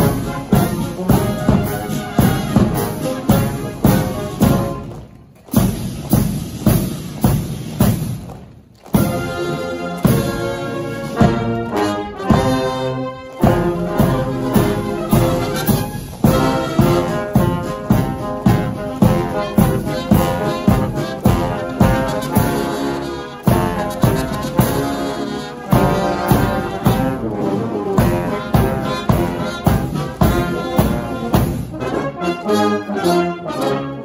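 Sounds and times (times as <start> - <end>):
steady drum beat: 0.0 - 12.7, 13.4 - 31.8
marching band brass: 0.0 - 34.0.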